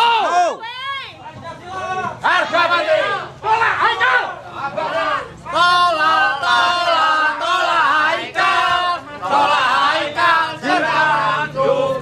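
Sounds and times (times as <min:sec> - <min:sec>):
crowd of men chanting: 0:01.9 - 0:12.0.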